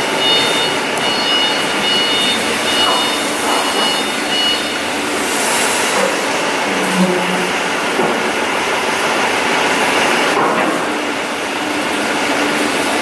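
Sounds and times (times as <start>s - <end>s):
loud machine noise: 0.0s - 13.0s.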